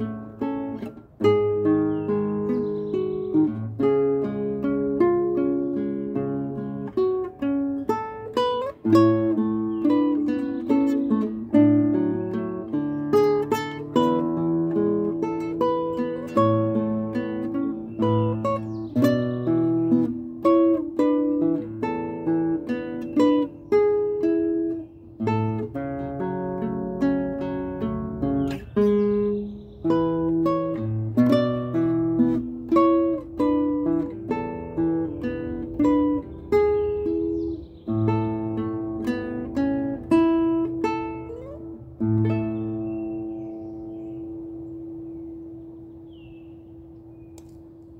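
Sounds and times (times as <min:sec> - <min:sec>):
fingerstyle classical guitar: 0:00.0 - 0:47.9.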